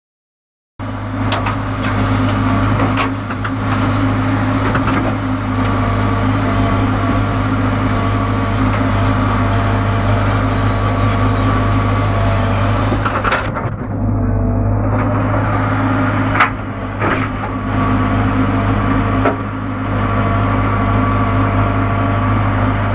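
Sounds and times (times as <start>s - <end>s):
diesel engine running under load: 0.8s - 22.9s.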